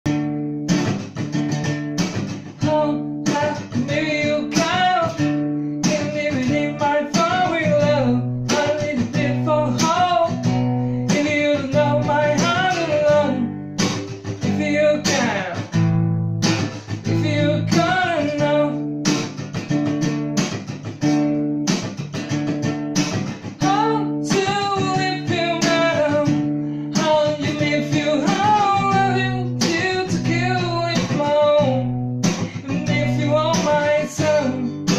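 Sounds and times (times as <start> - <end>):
acoustic guitar strumming: 0.1 - 34.9
man singing: 2.4 - 19.4, 23.1 - 34.9.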